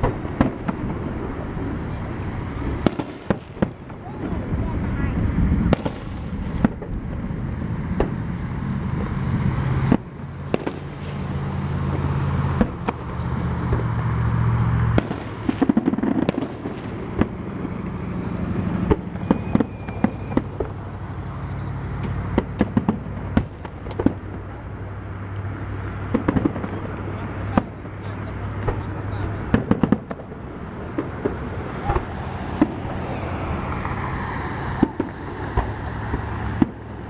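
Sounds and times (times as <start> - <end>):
fireworks bangs and pops: 0.0 - 37.0.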